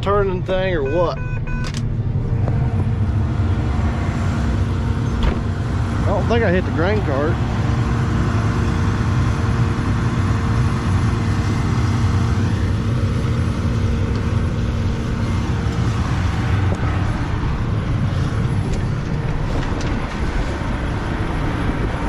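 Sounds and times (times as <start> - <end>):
combine harvester engine drone: 0.0 - 22.0
steady hum: 0.0 - 22.0.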